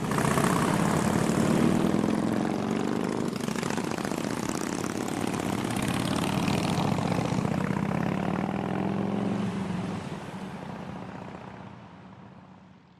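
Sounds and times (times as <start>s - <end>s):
motorcycle engines passing: 0.0s - 12.6s.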